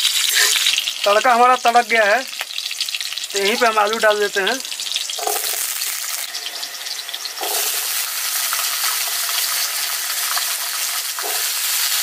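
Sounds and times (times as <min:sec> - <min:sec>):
potatoes sizzling in hot fat: 0:00.0 - 0:12.0.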